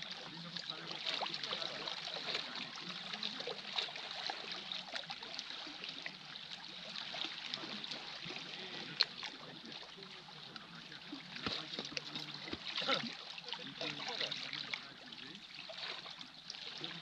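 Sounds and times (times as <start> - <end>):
small waves lapping on rocks: 0.0 - 17.0.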